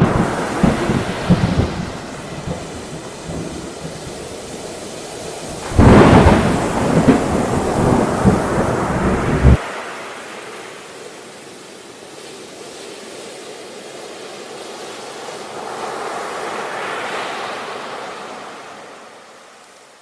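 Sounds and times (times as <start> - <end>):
ocean waves: 0.0 - 20.0.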